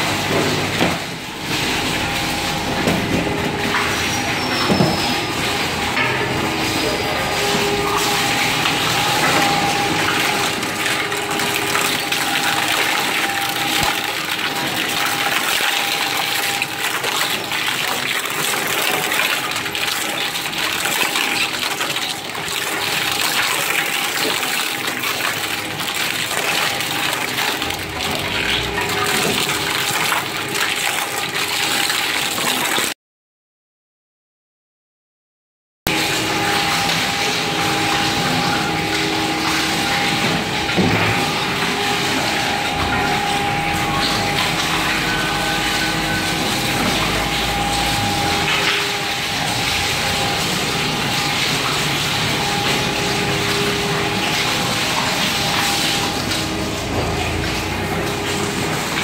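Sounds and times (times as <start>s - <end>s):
machine whine: 0.0s - 32.4s, 35.9s - 59.0s.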